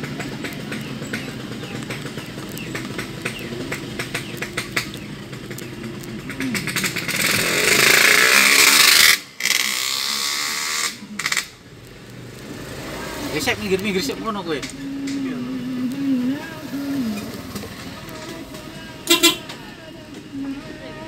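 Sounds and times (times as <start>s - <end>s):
engine and road rumble: 0.0s - 21.0s
small rattles and clicks: 0.0s - 21.0s.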